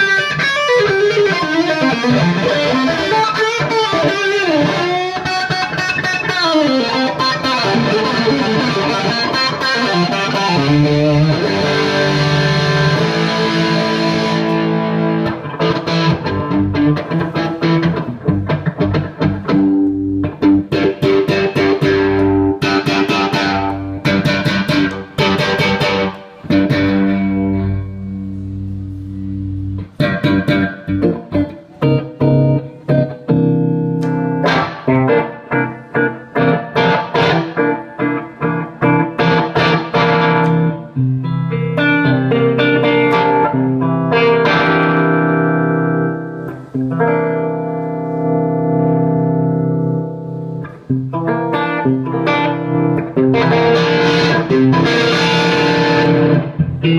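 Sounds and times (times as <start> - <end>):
overdriven electric guitar: 0.0 - 56.9.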